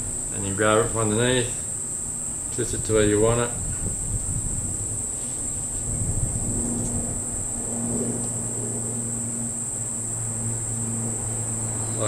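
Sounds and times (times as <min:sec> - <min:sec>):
high-pitched whine: 0:00.0 - 0:12.0
low steady hum: 0:00.0 - 0:12.0.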